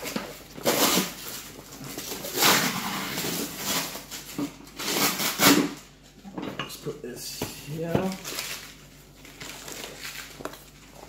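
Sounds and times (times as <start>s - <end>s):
packing material rustling: 0.0s - 5.6s, 7.7s - 11.0s.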